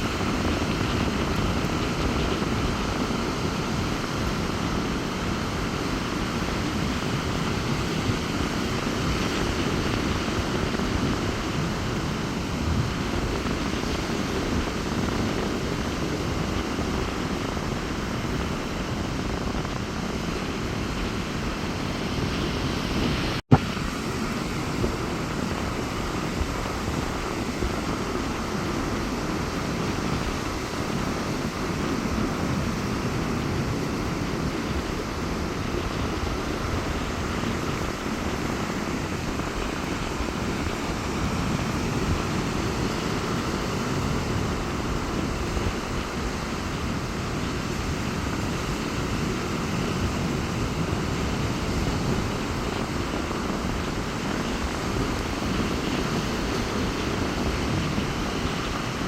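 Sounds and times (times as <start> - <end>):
sea surf rushing onto beach: 0.0 - 59.0
strong wind: 0.0 - 59.0.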